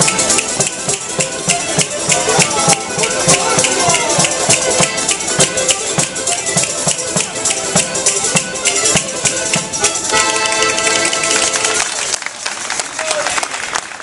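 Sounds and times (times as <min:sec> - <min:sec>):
jingling percussion beat: 0:00.0 - 0:12.1
folk melody: 0:00.0 - 0:13.3.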